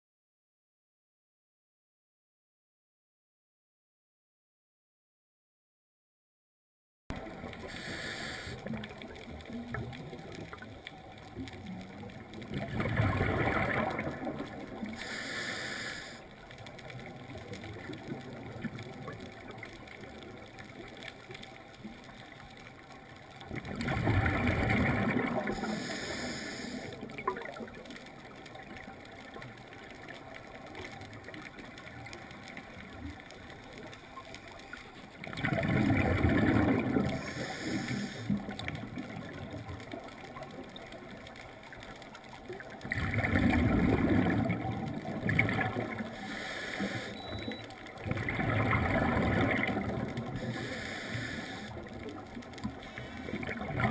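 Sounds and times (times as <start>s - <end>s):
underwater air bubbles rushing: 7.1s - 22.2s, 23.3s - 53.9s
underwater water noise: 7.1s - 53.9s.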